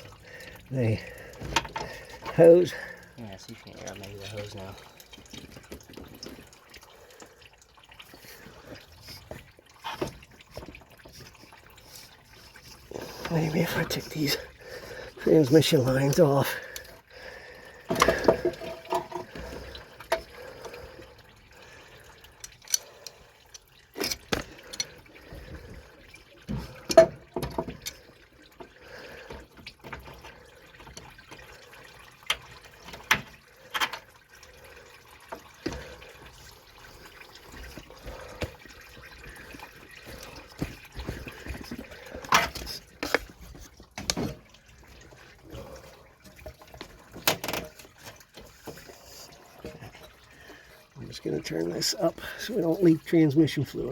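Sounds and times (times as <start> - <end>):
fluid dripping and trickling: 0.0 - 53.9.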